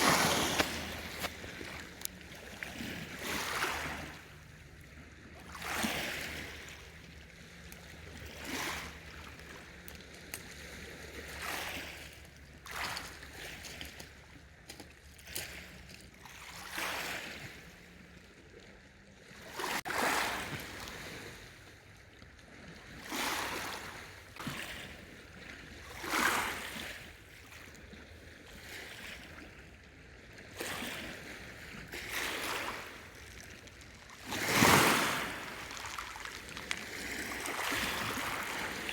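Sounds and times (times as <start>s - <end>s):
lake waves lapping at shore: 0.0s - 38.9s.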